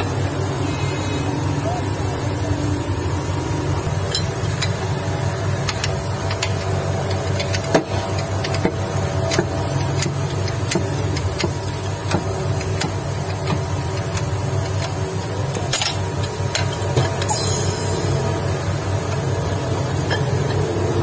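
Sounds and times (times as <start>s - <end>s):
workshop machine humming: 0.0s - 21.0s.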